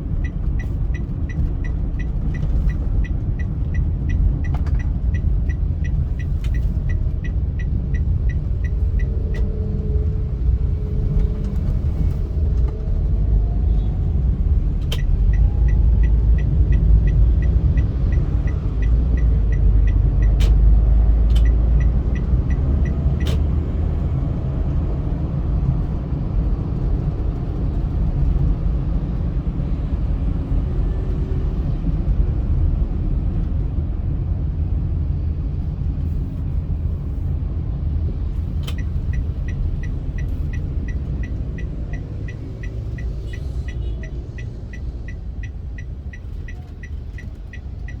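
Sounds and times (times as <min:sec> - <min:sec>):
car road and engine rumble: 0:00.0 - 0:48.0.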